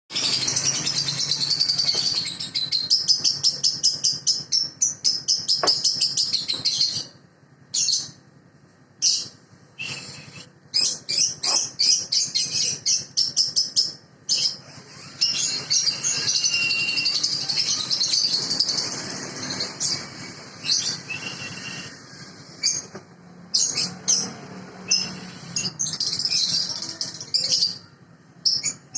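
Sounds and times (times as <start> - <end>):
baby birds chirping: 0.1 - 7.2, 9.0 - 28.9.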